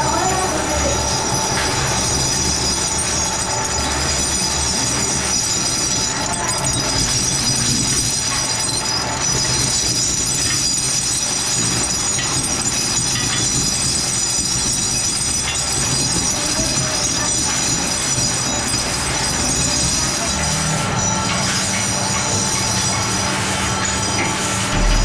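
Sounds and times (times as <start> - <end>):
workshop machinery running: 0.0 - 25.0.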